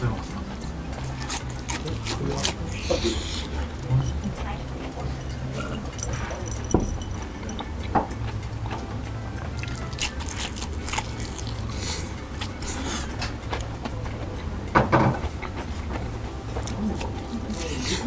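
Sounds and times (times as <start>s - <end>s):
chewing: 0.1s - 14.5s, 15.3s - 18.0s.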